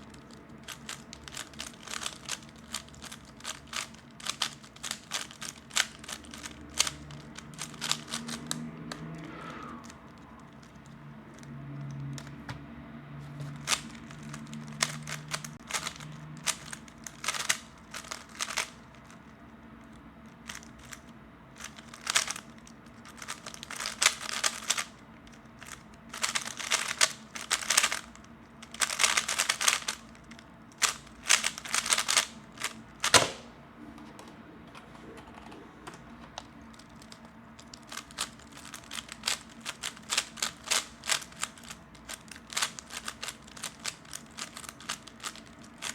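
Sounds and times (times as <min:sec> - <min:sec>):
puzzle cube clicking and rattling: 0:00.0 - 0:09.0, 0:10.1 - 0:12.3, 0:13.5 - 0:19.2, 0:19.9 - 0:33.4, 0:34.8 - 0:45.9.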